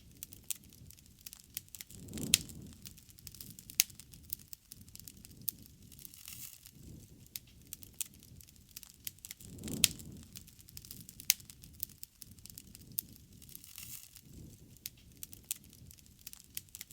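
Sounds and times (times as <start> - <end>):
low rumble of flame: 0.0 - 16.9
sharp pops of fire: 0.0 - 16.9
wood bonfire crackling: 0.0 - 16.9.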